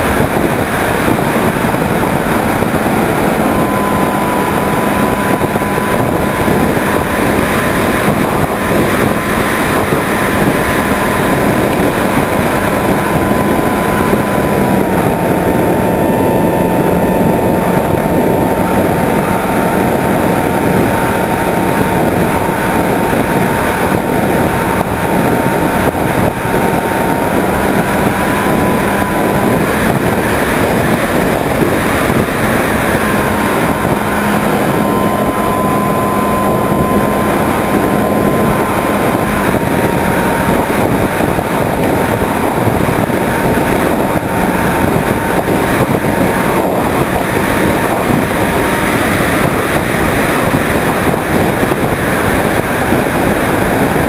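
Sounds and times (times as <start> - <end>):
electric motor and propeller whine: 0.0 - 54.0
wind rush over camera: 0.0 - 54.0.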